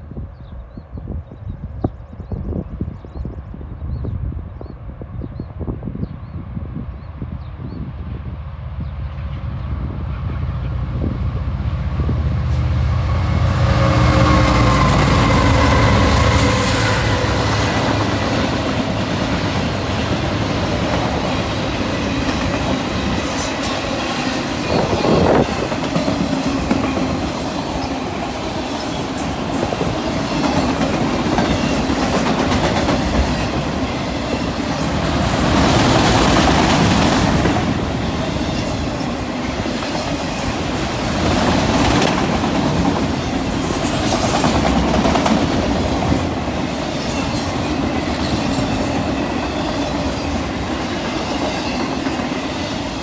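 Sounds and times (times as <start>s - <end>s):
freight train clattering past: 6.9s - 53.0s.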